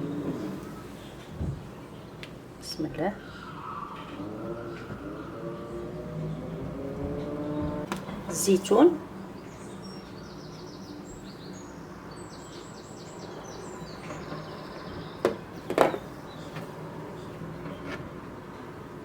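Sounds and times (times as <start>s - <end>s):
bird chirping: 3.0s - 18.9s.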